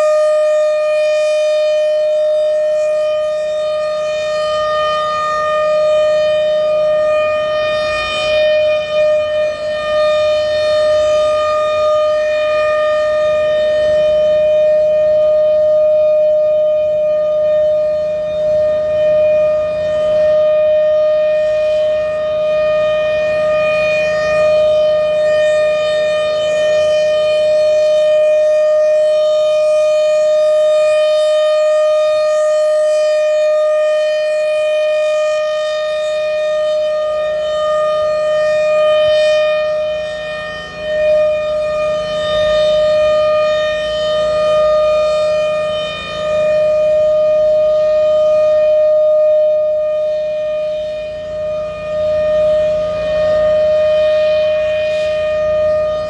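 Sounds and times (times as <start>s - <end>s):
rotating siren alert tone: 0.0s - 56.0s.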